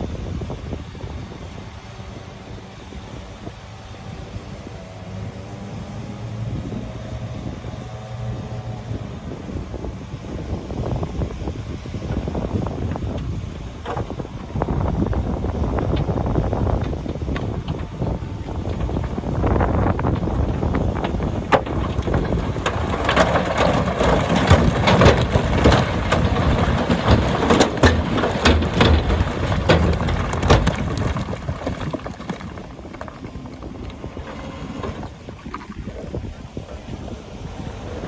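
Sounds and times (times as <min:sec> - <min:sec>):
heavy machinery running: 0:04.8 - 0:38.0
rocks grinding and knocking: 0:06.7 - 0:38.0.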